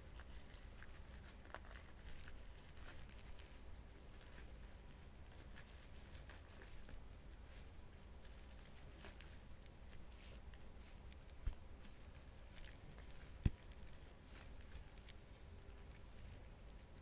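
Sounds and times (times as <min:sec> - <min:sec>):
small crackles: 0:00.0 - 0:17.0.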